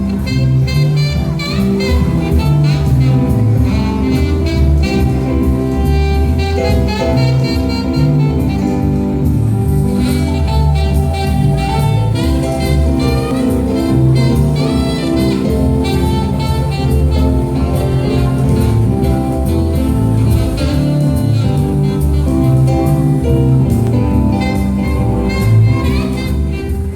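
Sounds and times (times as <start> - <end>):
soft jazz dinner music: 0.0 - 26.9.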